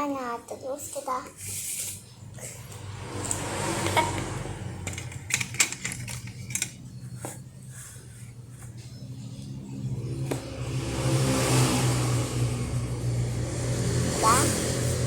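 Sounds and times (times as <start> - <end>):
steady low hum: 2.1 - 15.0
vehicle engine approaching: 2.1 - 15.0.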